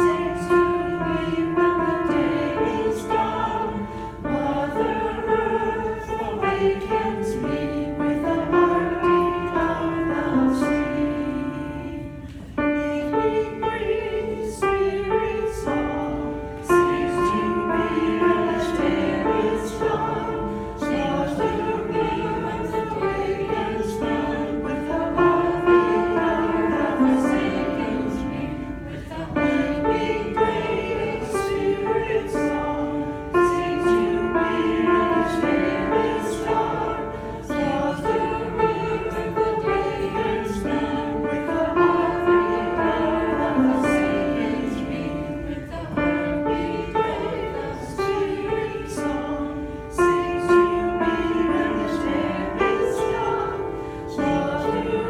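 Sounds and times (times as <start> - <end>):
choir singing slow song: 0.0 - 55.0.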